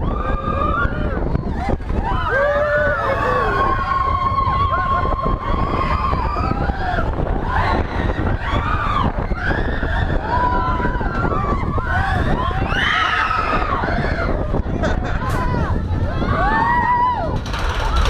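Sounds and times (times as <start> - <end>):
riders shouting and whooping: 0.0 - 18.0
roller coaster rumbling on track: 0.0 - 18.0.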